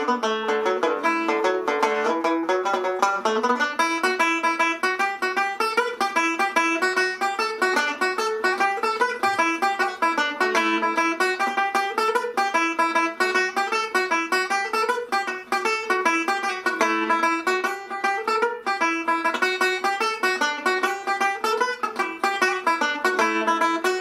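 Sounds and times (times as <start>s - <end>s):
banjo playing a lively reel: 0.0s - 24.0s.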